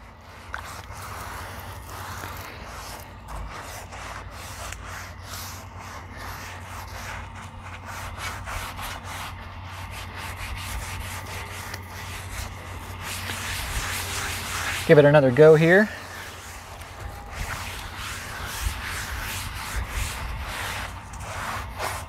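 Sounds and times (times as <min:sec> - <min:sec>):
hand scrubbing wet griddle: 0:00.0 - 0:22.0.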